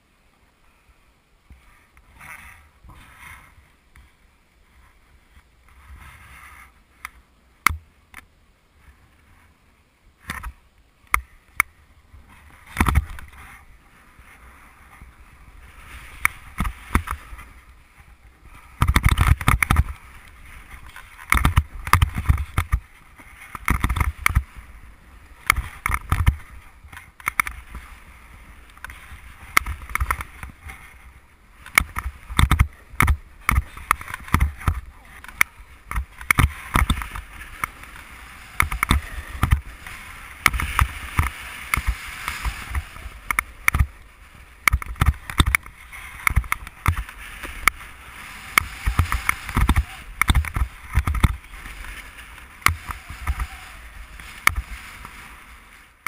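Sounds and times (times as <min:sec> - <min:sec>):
snowboard scraping over snow: 0:01.6 - 0:07.0, 0:12.0 - 0:56.0.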